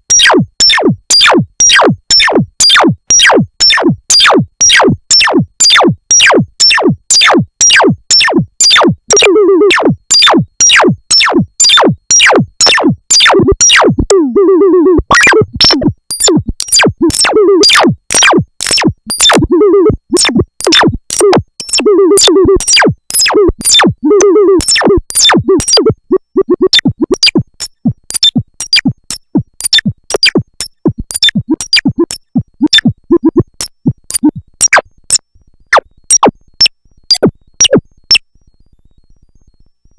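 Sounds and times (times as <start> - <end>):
synthesizer chiptune pattern: 0.1 - 34.8, 35.7 - 36.3, 37.1 - 37.8.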